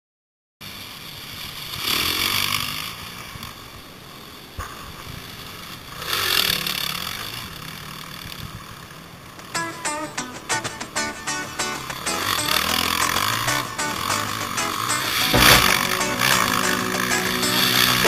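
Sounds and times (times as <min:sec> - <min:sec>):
dirt bike engines revving: 0:00.7 - 0:09.5, 0:11.9 - 0:18.0.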